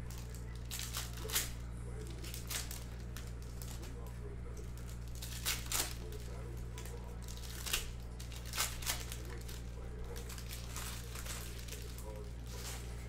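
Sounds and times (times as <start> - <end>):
card wrappers crinkling and tearing: 0.0 - 13.0.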